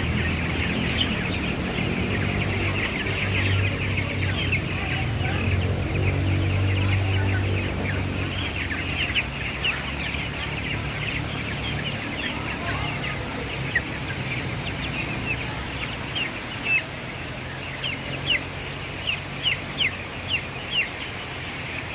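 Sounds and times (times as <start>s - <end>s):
chicks peeping: 0.0s - 21.9s.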